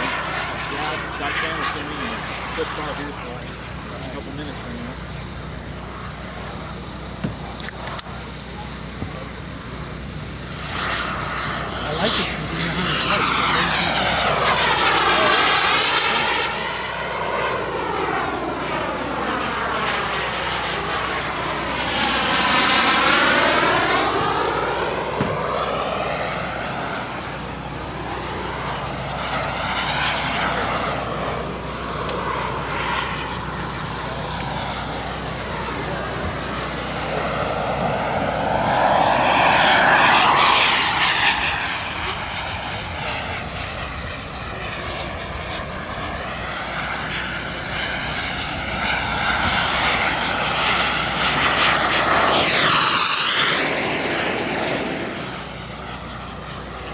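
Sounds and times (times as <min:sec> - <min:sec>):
model jet turbine passing overhead: 0:00.0 - 0:56.9.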